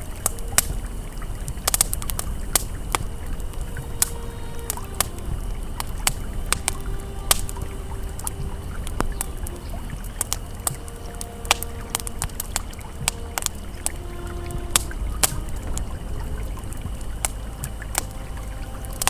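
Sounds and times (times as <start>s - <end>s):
ambient pad tones: 0.0s - 19.0s
campfire crackling and popping: 0.0s - 19.0s
flowing river: 0.0s - 19.0s.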